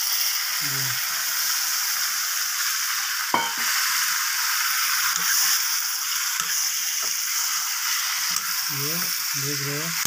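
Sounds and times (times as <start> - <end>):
food sizzling in a metal pan: 0.0 - 10.0.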